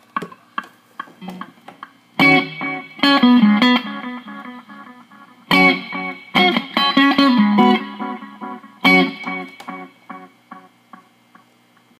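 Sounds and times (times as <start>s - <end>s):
electric guitar chords with echo: 0.2s - 11.3s.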